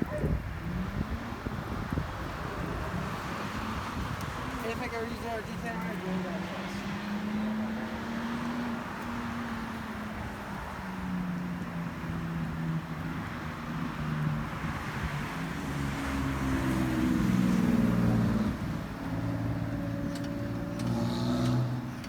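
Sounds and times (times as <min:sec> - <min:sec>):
car engine revving: 0:00.2 - 0:10.9, 0:11.8 - 0:22.0.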